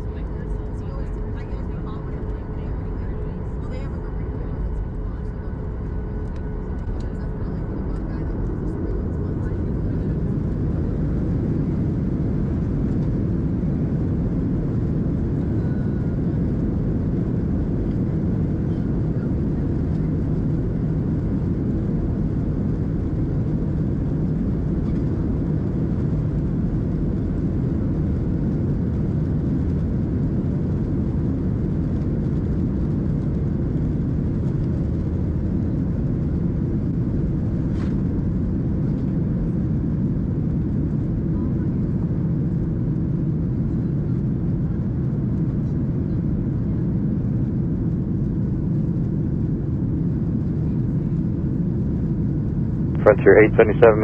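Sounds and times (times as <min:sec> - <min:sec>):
jet engines roaring: 0:00.0 - 0:45.5, 0:46.2 - 0:54.0
wheels rumbling on runway: 0:00.0 - 0:54.0.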